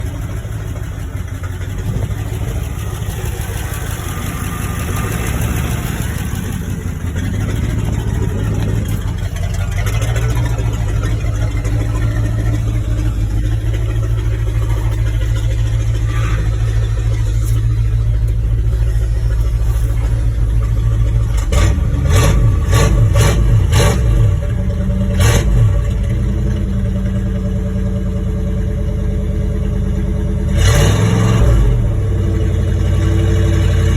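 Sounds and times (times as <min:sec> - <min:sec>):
pickup truck engine revving: 0:00.0 - 0:33.9.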